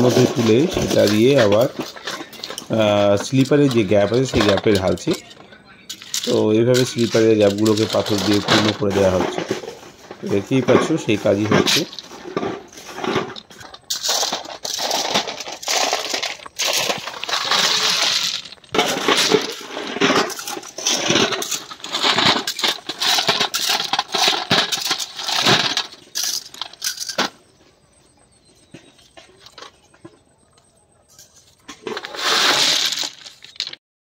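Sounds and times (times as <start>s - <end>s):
railway ballast crunching: 0.0s - 33.8s.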